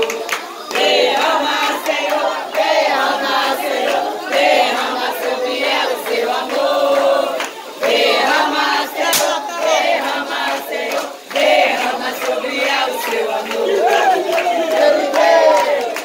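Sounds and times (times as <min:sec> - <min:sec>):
group singing and chanting: 0:00.0 - 0:16.0.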